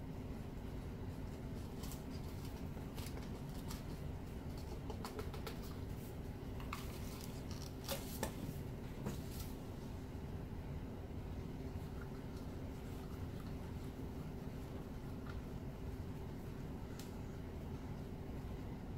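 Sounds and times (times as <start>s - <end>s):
low room hum: 0.0s - 18.9s.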